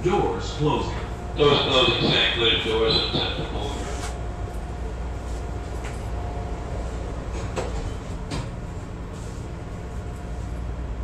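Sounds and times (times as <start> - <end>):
rail car equipment humming: 0.0 - 11.0.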